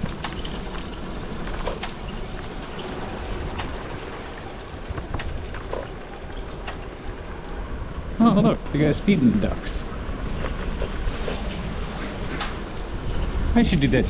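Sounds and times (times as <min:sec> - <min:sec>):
wind and rolling rumble: 0:00.0 - 0:14.0.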